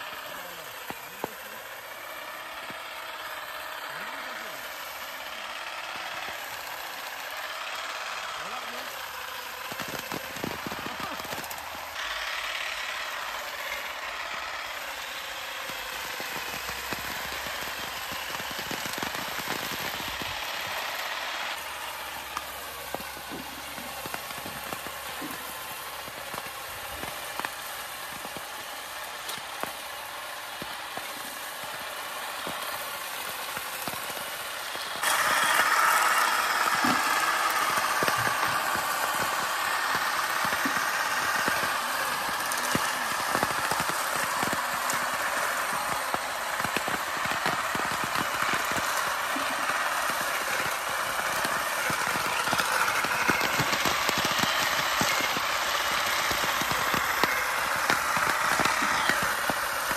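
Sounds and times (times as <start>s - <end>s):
electric harvester motor running: 0.0s - 59.9s.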